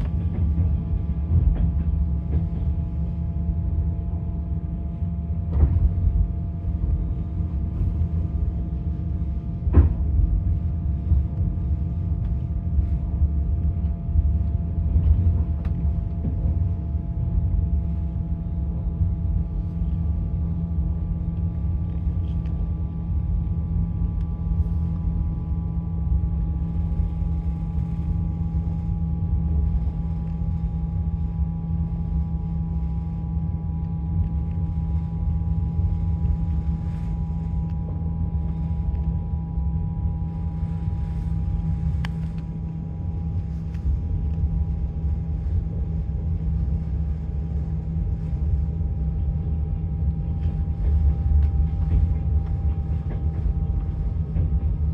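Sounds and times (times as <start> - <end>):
constant hum: 0.0 - 54.9
train rumbling: 0.0 - 54.9.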